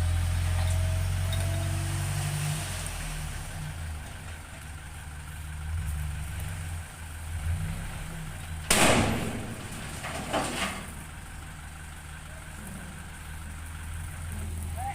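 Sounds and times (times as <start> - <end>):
heavy vehicle engine rumbling: 0.0 - 14.9.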